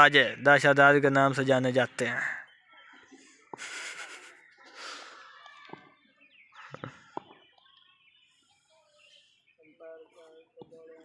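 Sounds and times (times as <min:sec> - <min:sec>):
faint distant voices: 0:01.4 - 0:11.0.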